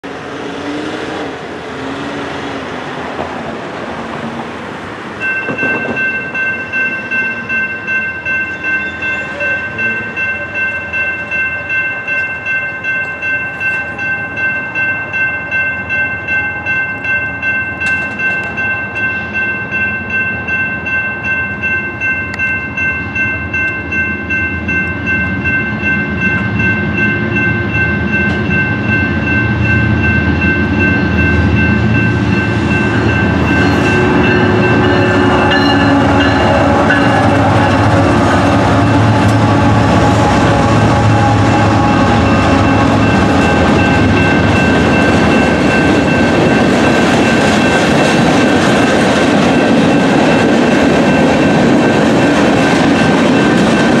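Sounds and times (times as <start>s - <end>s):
street traffic: 0.0s - 54.0s
train locomotives rumbling: 0.0s - 54.0s
railroad crossing bell ringing: 5.0s - 54.0s.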